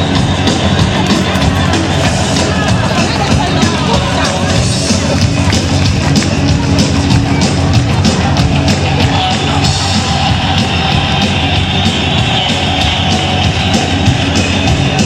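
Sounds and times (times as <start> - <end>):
fast drum beat: 0.0 - 15.0
loud amplified music: 0.0 - 15.0.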